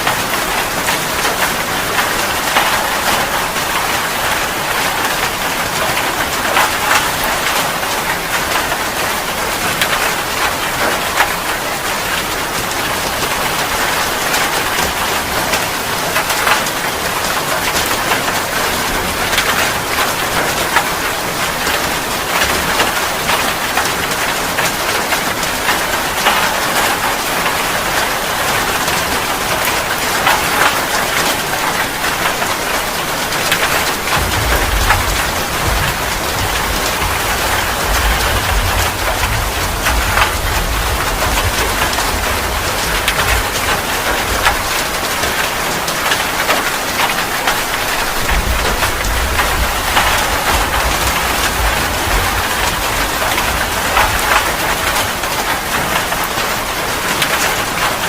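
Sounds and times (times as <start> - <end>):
raindrops ticking: 0.0 - 58.0
steady rain falling: 0.0 - 58.0.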